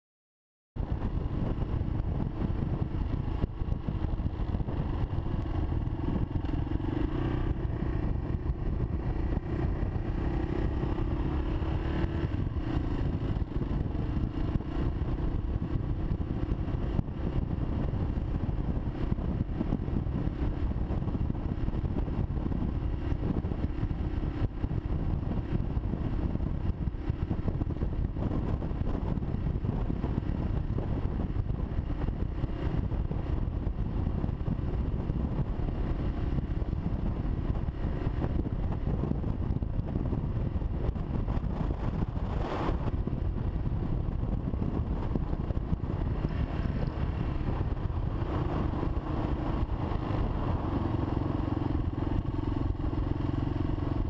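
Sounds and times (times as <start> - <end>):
motorcycle engine running: 0.8 - 54.0.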